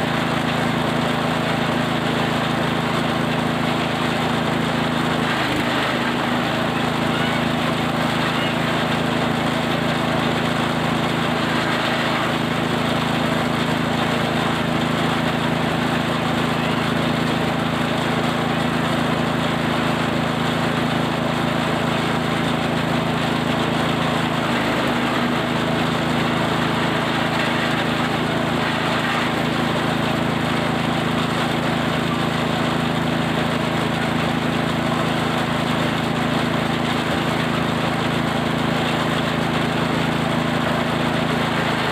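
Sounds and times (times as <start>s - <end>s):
feed chopper engine running: 0.0s - 41.9s.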